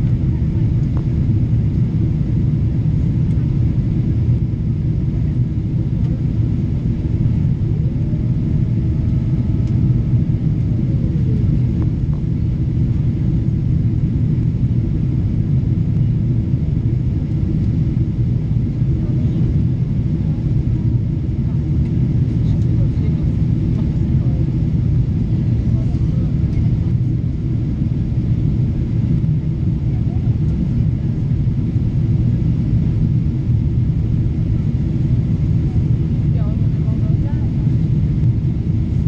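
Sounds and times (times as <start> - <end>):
jet engine cabin rumble: 0.0 - 39.0.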